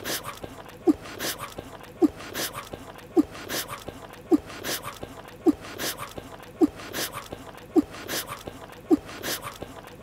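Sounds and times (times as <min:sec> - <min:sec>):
cartoon munching and smacking: 0:00.0 - 0:10.0.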